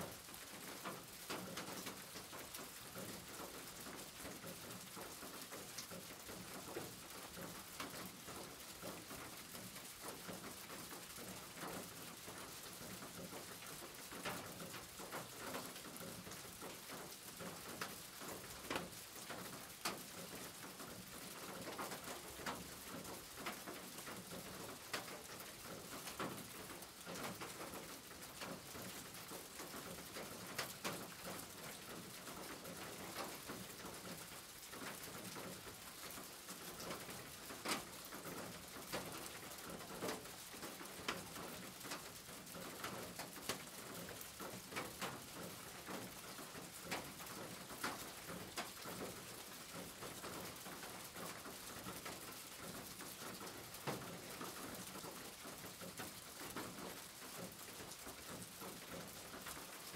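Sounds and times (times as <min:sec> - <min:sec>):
rain drumming on a tin roof: 0:00.0 - 0:59.9
raindrops ticking: 0:00.0 - 0:59.9.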